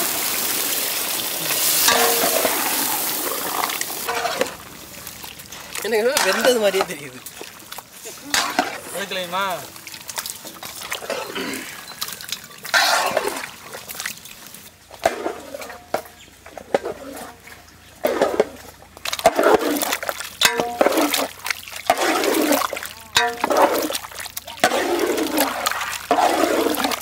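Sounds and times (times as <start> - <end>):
paddle stirring thick curry: 1.4 - 27.0.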